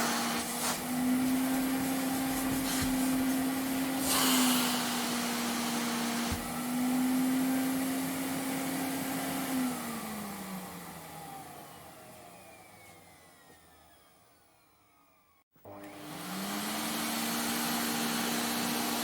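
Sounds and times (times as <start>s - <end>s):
vacuum cleaner motor running: 0.0s - 19.0s
vacuum motor spinning down: 0.0s - 19.0s.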